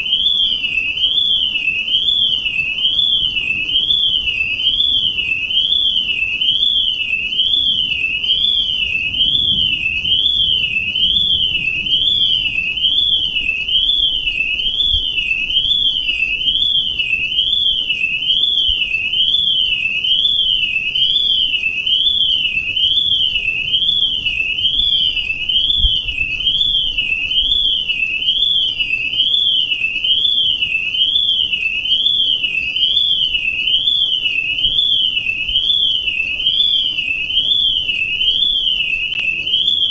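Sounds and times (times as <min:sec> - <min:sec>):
electronic alarm warbling: 0:00.0 - 0:39.9.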